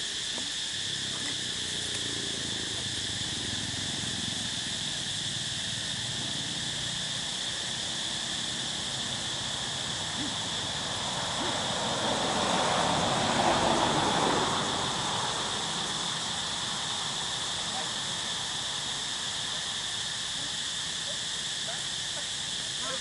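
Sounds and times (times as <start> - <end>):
broad rushing noise: 0.0 - 21.8
insect chorus droning: 0.0 - 23.0.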